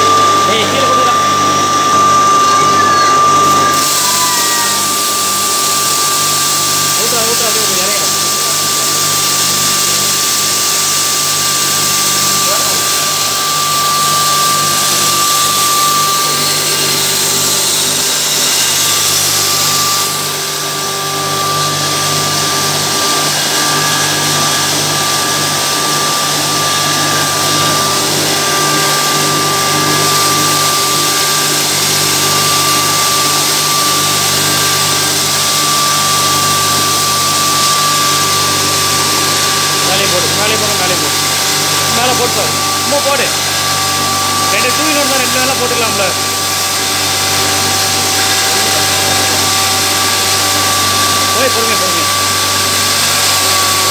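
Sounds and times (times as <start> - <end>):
grinding mill whining: 0.0 - 53.9.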